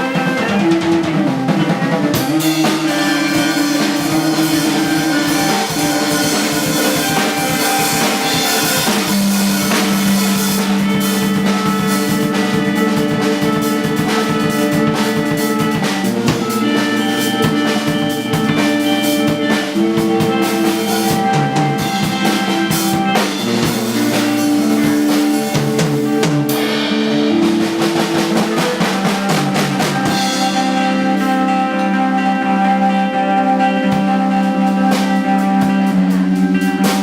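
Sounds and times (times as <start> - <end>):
drum kit snare and rimshot hits: 0.0 - 31.0
live band music: 0.0 - 37.0.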